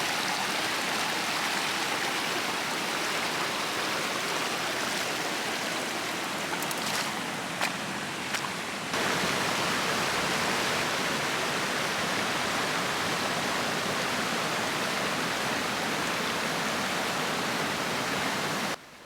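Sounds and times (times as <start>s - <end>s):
water rushing over waterfall: 0.3s - 18.8s.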